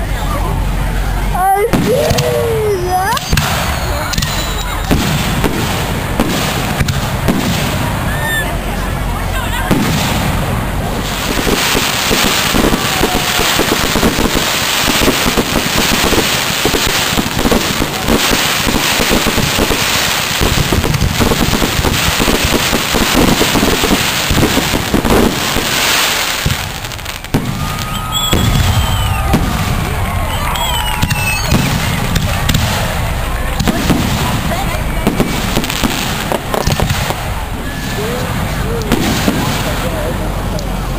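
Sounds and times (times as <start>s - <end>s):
fireworks bangs and crackling: 0.0s - 40.9s
fireworks whistles: 1.6s - 8.6s, 9.6s - 39.9s.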